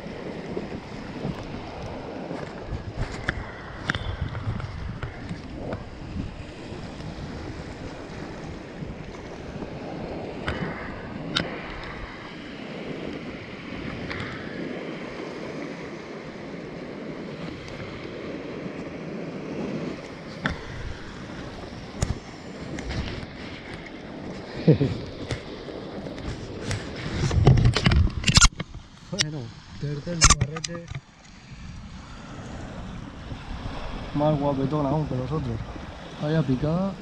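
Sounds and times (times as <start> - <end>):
small waves washing onto beach: 0.0 - 37.0
wind buffeting microphone: 0.0 - 37.0.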